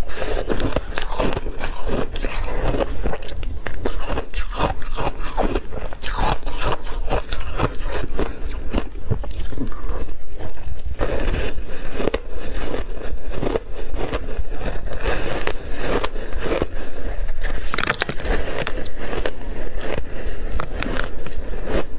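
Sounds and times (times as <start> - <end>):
chewing crunchy ice: 0.0 - 21.9.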